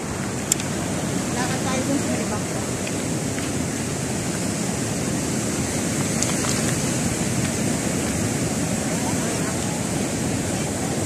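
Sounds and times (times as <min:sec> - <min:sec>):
surf breaking on pebble beach: 0:00.0 - 0:11.0.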